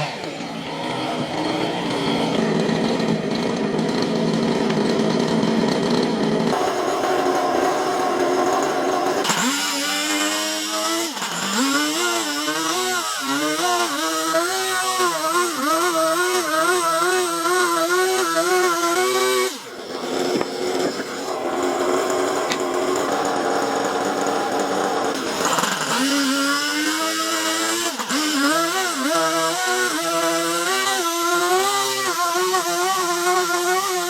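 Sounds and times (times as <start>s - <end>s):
power tool motor whining: 0.0s - 34.0s.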